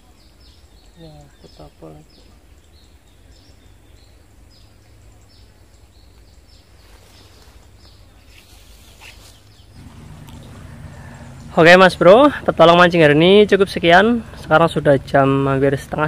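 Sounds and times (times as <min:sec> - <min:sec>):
faint low rumble: 0:02.2 - 0:16.0.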